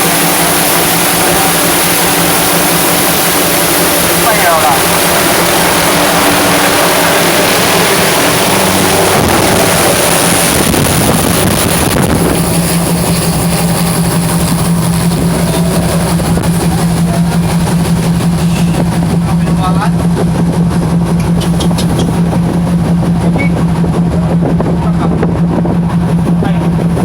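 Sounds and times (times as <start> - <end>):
boat engine running: 0.0 - 27.0
wind: 0.0 - 27.0.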